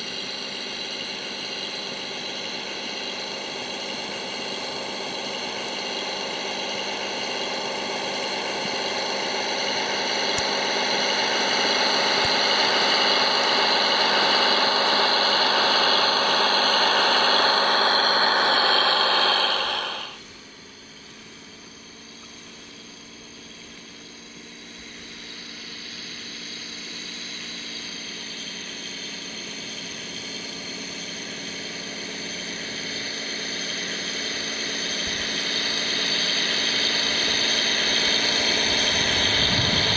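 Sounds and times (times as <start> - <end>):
model tractor motor whine: 0.0 - 39.9.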